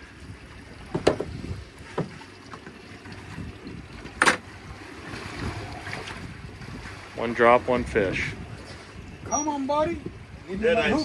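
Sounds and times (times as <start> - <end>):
wind and water background: 0.0 - 11.0.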